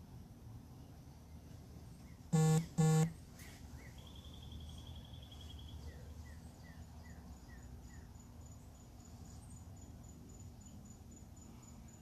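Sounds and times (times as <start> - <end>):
faint birdsong trill: 0.5 - 12.0.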